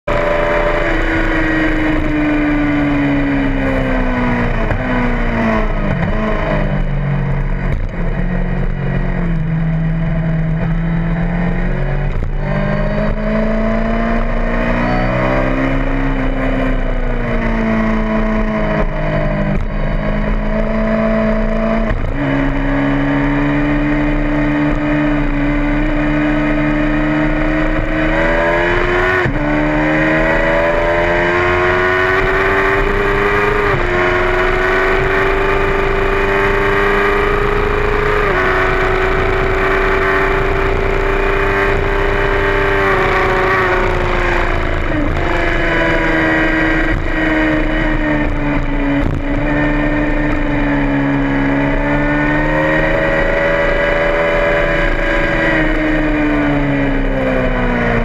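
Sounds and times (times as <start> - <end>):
motorcycle engine at speed: 0.0 - 58.0
rushing wind noise: 0.1 - 58.0.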